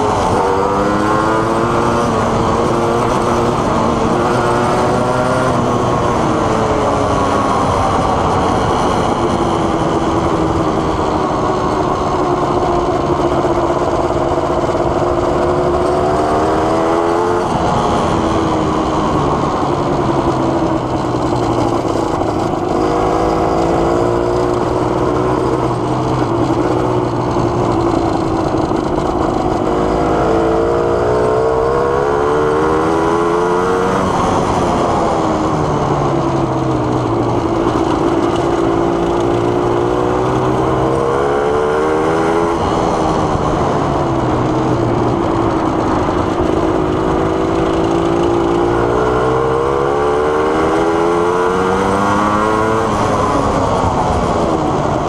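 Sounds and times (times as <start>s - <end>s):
two-stroke quad engine revving: 0.0s - 55.0s.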